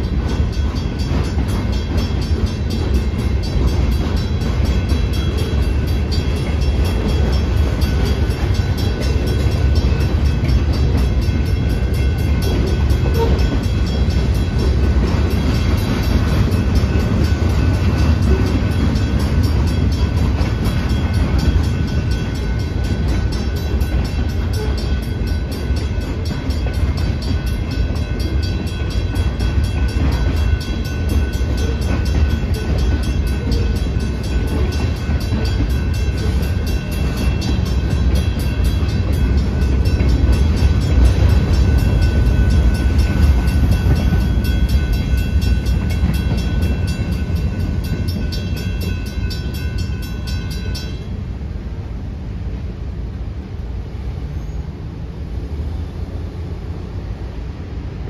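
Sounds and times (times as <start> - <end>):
crossing warning bell ringing: 0.0 - 51.8
steel wheels rumbling on rail: 0.0 - 58.0.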